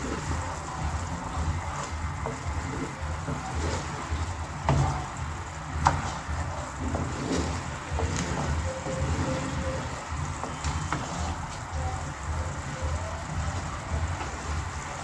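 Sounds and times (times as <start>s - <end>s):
sauce simmering in a pan: 0.0s - 15.0s.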